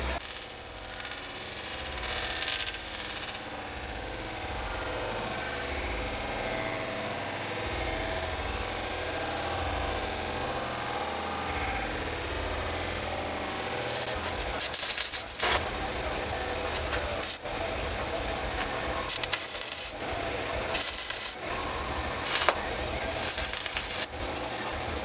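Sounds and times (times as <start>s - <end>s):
steady low hum: 0.0s - 25.0s
welding arc crackling: 0.0s - 25.0s.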